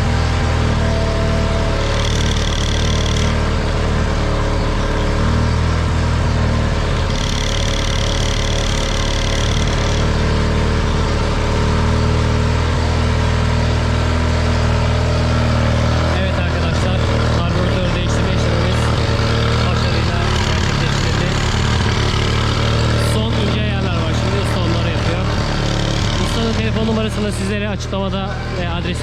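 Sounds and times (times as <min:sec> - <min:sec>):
high whine: 0:00.0 - 0:29.0
outboard motor running: 0:00.0 - 0:29.0.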